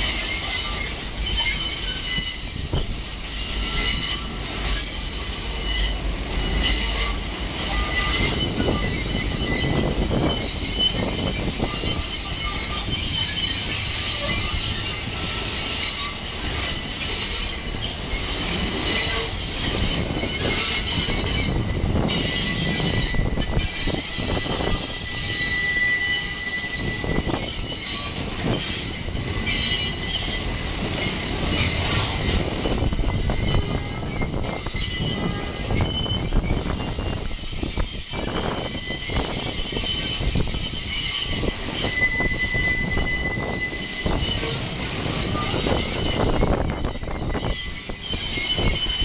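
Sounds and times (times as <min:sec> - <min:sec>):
low rumble of train cars: 0:00.0 - 0:49.0
train wheels squealing on rails: 0:00.0 - 0:49.0.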